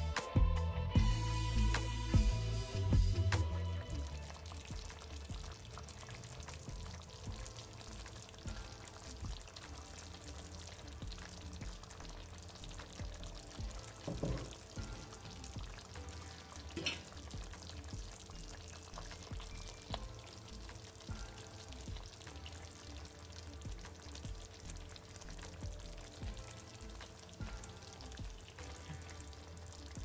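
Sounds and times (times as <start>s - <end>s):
sauce simmering in a pot: 1.0s - 30.0s.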